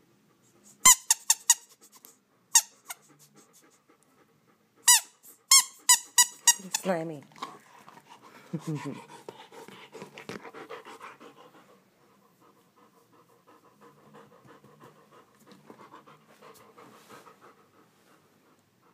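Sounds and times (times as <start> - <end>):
dog panting: 1.6 - 18.9.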